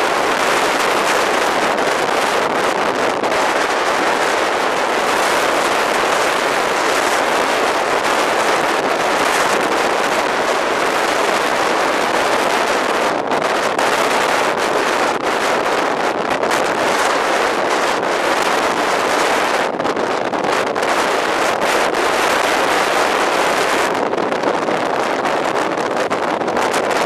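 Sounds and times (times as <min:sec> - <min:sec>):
storm wind blowing across microphone: 0:00.0 - 0:27.0.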